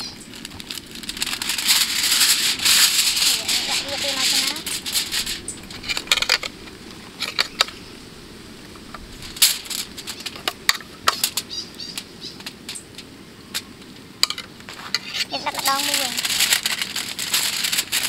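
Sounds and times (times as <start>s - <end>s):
aluminium foil crinkling: 0.0s - 6.6s, 9.1s - 18.0s.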